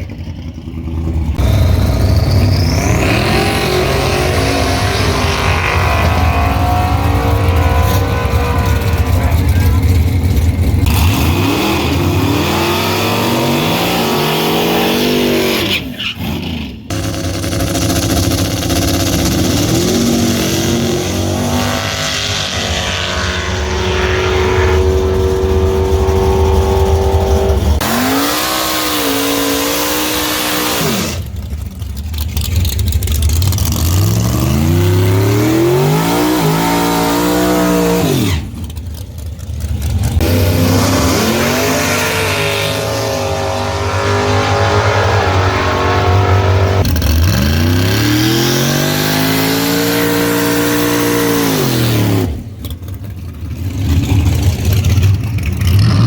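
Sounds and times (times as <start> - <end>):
truck engines at full throttle: 0.0 - 56.0.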